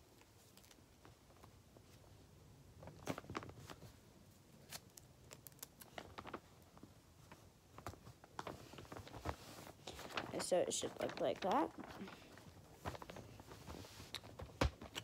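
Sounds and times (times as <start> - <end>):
tape and paper crinkling: 0.1 - 2.0, 4.6 - 15.0.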